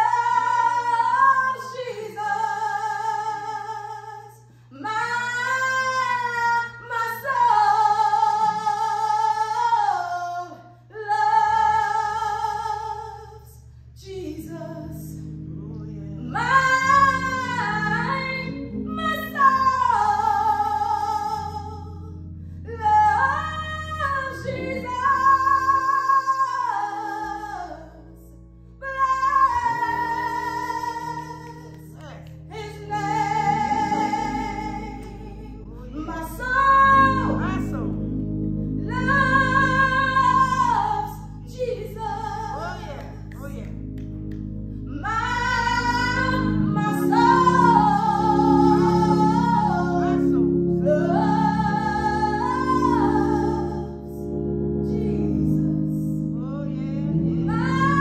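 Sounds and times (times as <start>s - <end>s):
sustained accompanying chords: 0.0s - 58.0s
woman singing gospel: 0.0s - 58.0s.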